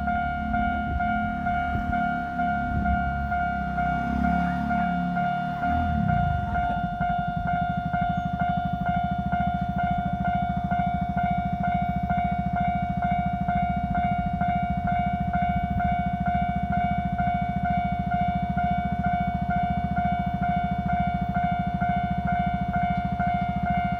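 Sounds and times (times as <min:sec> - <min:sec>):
level crossing bell dinging: 0:00.0 - 0:23.9.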